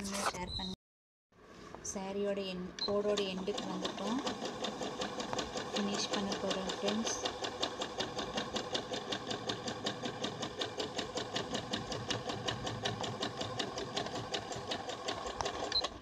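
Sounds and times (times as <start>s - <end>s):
sewing needle ticking: 2.8s - 16.0s
sewing machine motor hum: 2.9s - 16.0s.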